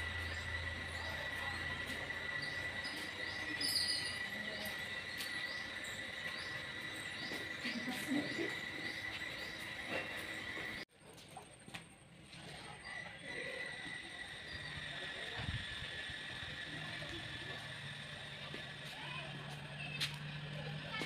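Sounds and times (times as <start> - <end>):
insects droning: 0.0 - 10.8, 12.7 - 21.0.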